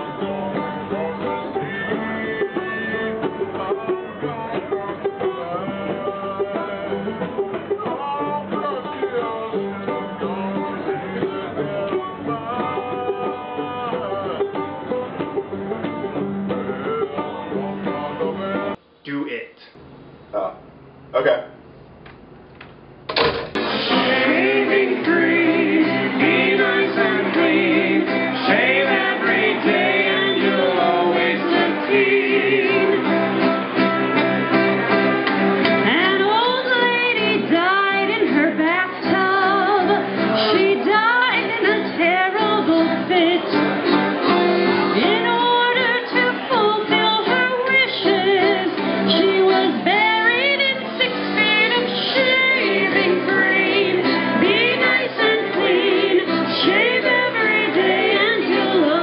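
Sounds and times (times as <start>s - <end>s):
woman singing with accompaniment: 0.0s - 15.3s, 23.6s - 34.2s, 35.6s - 59.0s.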